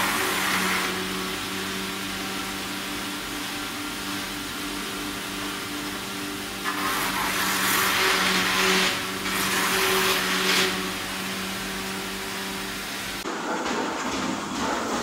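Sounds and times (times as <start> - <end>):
wood crusher motor humming: 0.0 - 15.0.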